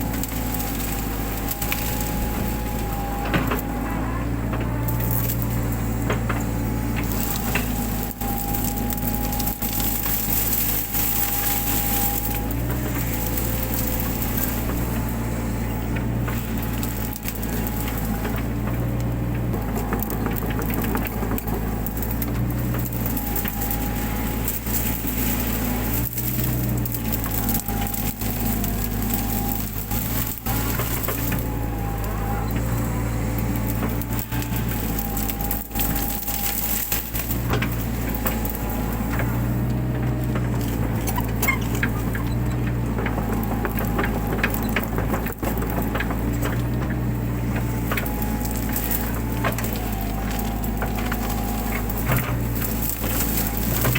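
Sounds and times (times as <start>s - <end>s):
brush crackling and snapping: 0.0s - 53.9s
excavator engine running: 0.0s - 53.9s
hydraulic whine: 0.0s - 53.9s.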